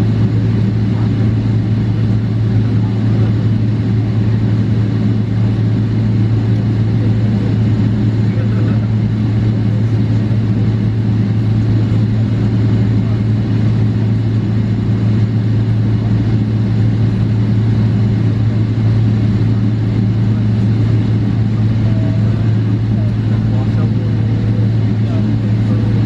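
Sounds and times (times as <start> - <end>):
low engine hum in cabin: 0.0 - 26.0.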